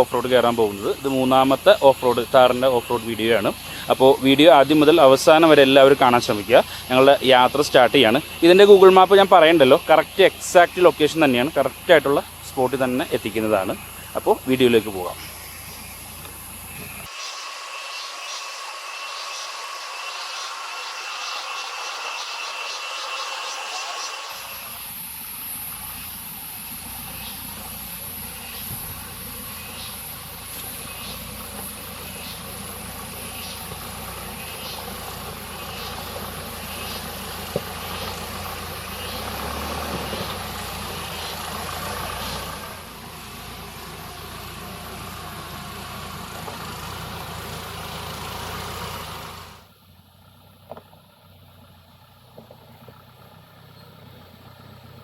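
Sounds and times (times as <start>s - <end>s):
high-pitched buzz: 0.0s - 49.7s
car engine running: 0.0s - 55.0s.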